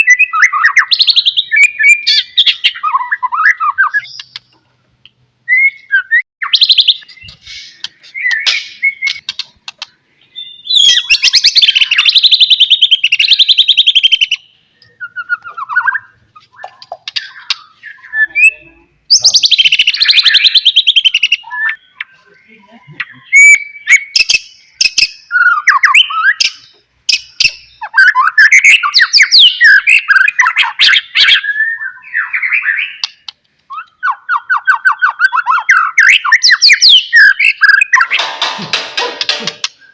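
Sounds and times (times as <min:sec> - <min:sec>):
bird singing whistled phrases: 0:00.0 - 0:04.4, 0:05.5 - 0:09.2, 0:10.2 - 0:33.1, 0:33.7 - 0:38.2.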